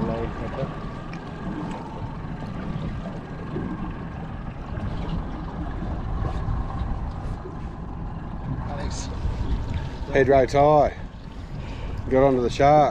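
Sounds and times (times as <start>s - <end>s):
low rumble aboard boat: 0.0s - 12.9s.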